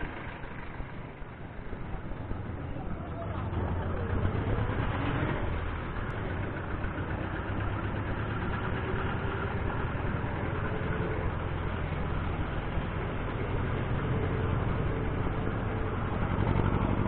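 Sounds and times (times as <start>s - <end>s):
low traffic rumble: 0.0s - 17.0s
vehicle engines running: 0.0s - 17.0s.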